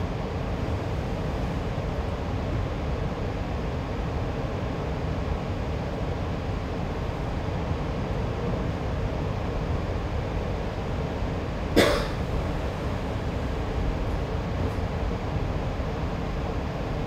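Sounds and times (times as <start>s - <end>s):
light rail car rumbling: 0.0s - 17.0s.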